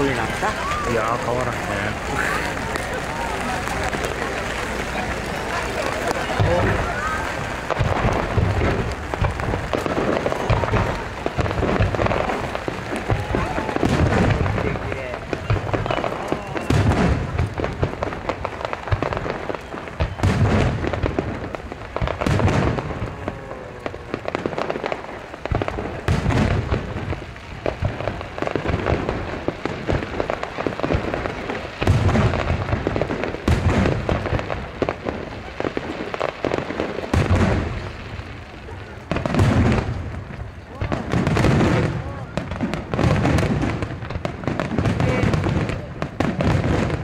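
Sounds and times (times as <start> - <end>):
fireworks booming: 0.0 - 47.0
heavy rain hissing: 0.0 - 47.0.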